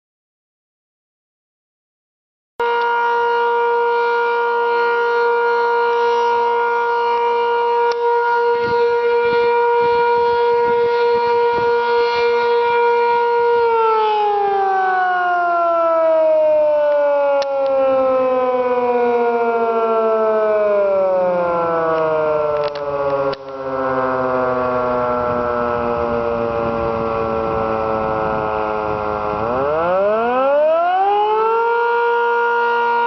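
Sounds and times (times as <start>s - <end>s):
warning siren: 2.6s - 33.0s.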